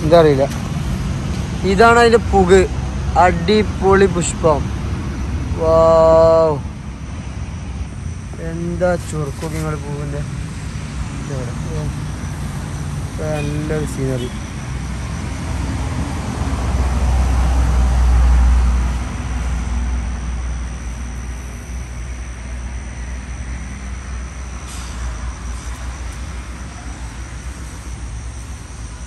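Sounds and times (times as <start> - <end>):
heavy road vehicle passing: 0.0 - 29.0
road noise: 0.0 - 29.0.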